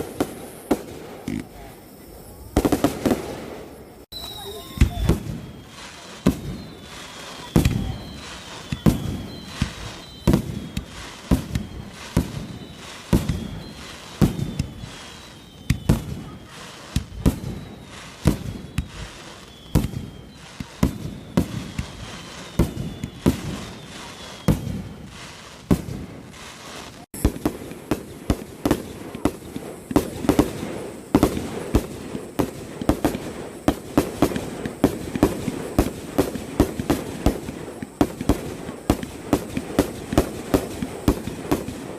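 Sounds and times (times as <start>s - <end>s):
fireworks bangs: 0.0s - 41.9s
fireworks whistles gliding down: 0.0s - 41.9s.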